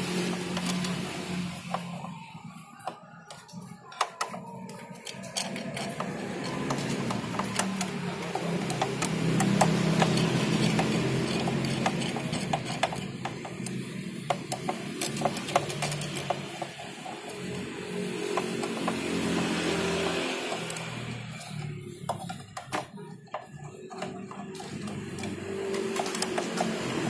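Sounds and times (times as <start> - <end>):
screwdriver clicking on metal: 0.2 - 27.0.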